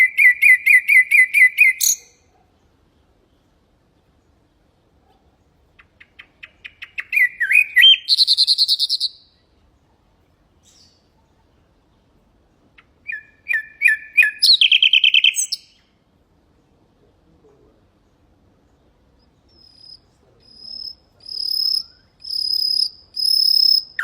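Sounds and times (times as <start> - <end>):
nightingale singing: 0.0 - 4.6, 5.4 - 12.2, 12.8 - 16.0, 17.9 - 24.0.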